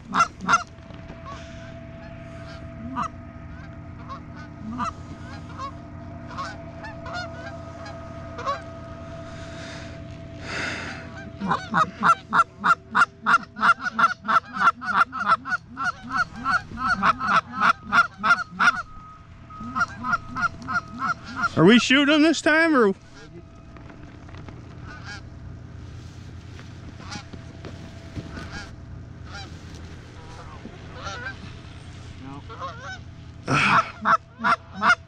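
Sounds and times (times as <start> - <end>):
goose honking and clucking: 0.0 - 35.0.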